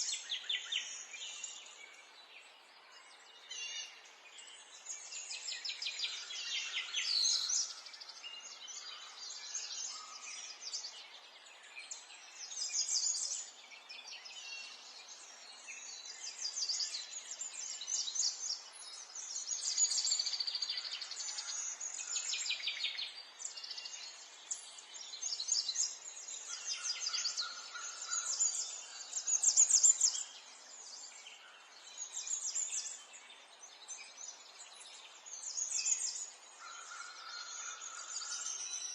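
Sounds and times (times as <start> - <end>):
faint outdoor hiss: 0.0 - 38.9
songbirds chirping and singing: 0.0 - 38.9.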